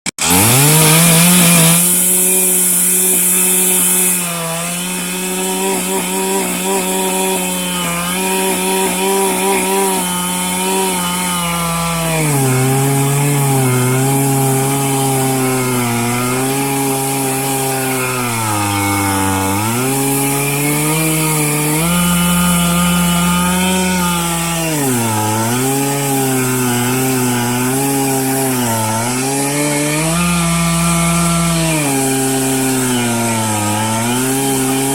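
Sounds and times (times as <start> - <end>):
chainsaw cutting a log: 0.1 - 34.9.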